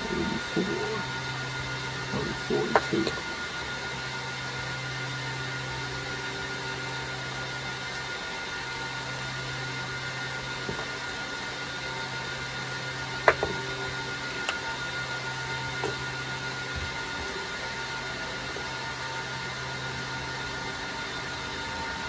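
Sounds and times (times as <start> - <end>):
workshop hum and hiss: 0.0 - 22.0.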